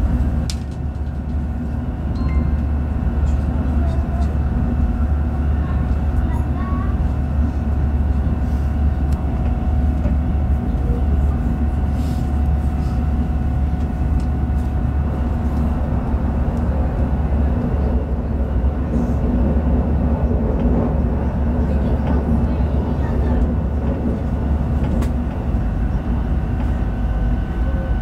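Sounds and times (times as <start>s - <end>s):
constant hum: 0.0s - 28.0s
train low rumble: 0.0s - 28.0s.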